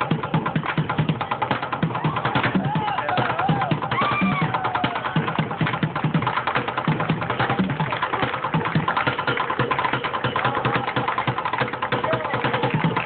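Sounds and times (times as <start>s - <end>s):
fast drumming on buckets: 0.0s - 13.0s.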